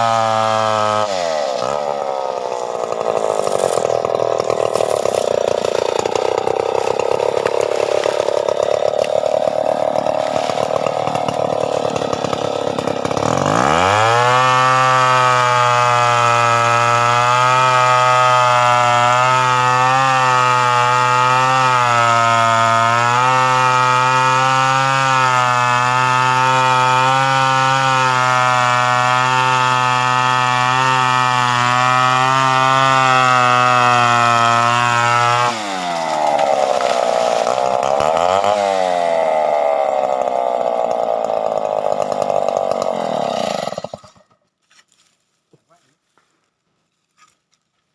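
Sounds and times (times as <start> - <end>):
chainsaw revving: 0.0 - 44.4.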